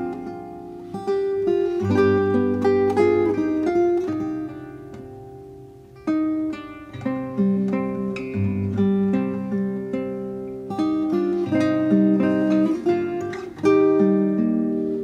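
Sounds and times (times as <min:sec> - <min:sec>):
plucked instrumental music: 0:00.0 - 0:15.0.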